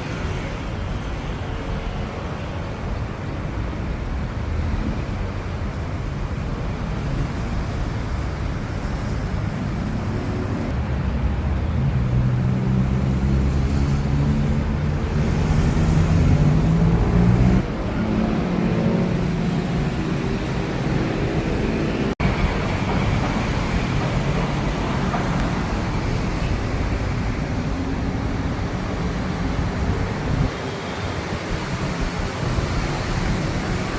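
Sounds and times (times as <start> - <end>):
street traffic hum: 0.0 - 33.9.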